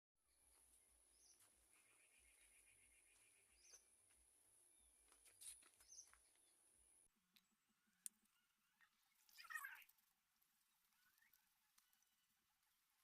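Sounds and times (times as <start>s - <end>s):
faint bird chirps: 0.3s - 4.0s, 4.7s - 6.7s, 7.3s - 13.0s.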